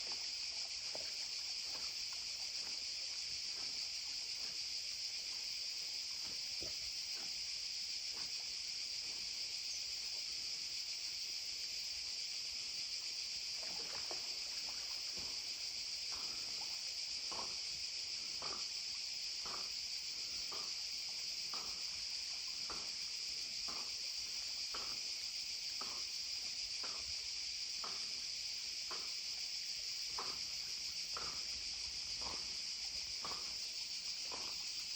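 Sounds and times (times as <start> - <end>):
dog paddling water strokes: 0.0 - 34.9
insects chorus: 0.0 - 34.9.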